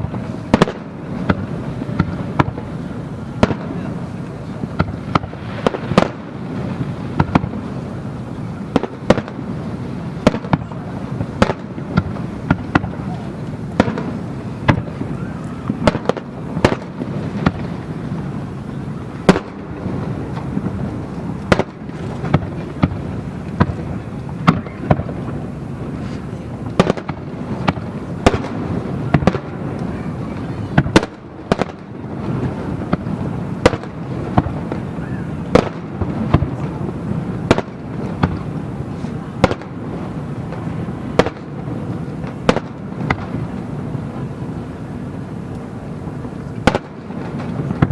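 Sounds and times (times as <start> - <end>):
fireworks bursting: 0.0 - 47.9
rumble of fireworks bursts: 0.0 - 47.9.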